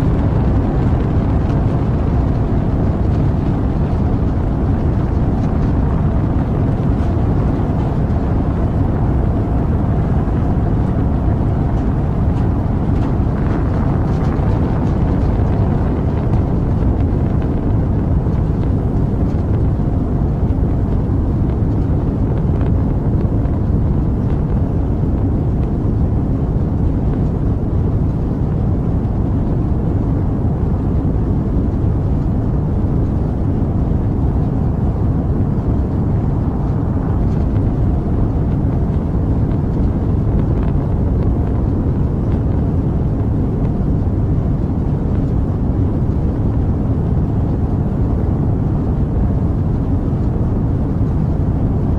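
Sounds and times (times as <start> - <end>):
rocket engines rumbling: 0.0 - 51.9.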